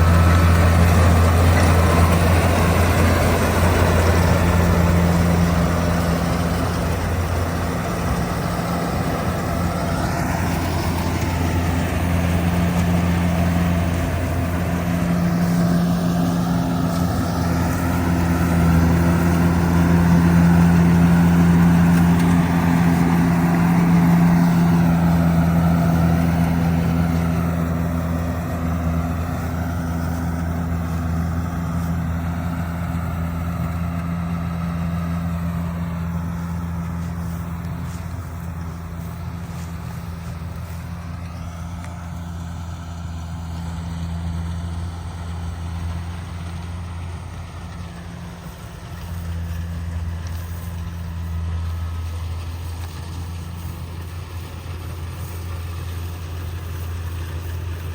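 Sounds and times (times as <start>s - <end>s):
combine harvester diesel engine: 0.0s - 57.9s.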